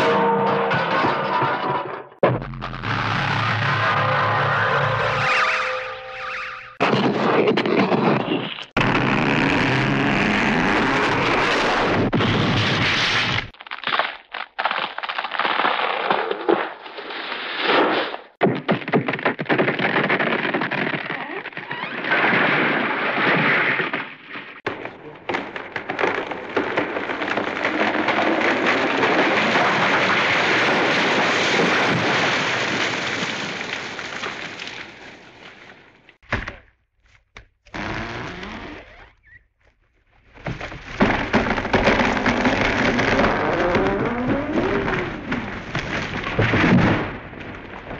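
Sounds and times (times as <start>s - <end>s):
tumbling debris crash: 0.0s - 17.7s, 18.4s - 36.6s, 40.2s - 47.9s.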